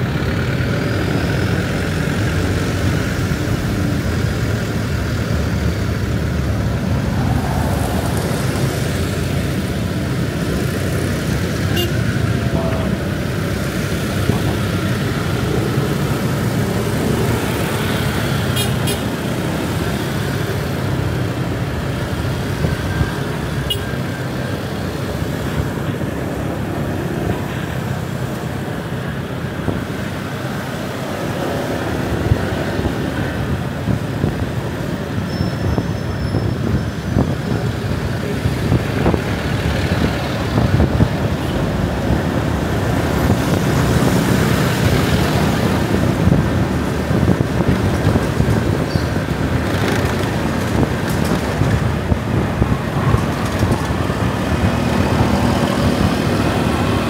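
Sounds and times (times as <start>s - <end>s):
motorbike engine and road noise: 0.0s - 57.0s
surrounding vehicle engines: 0.0s - 57.0s.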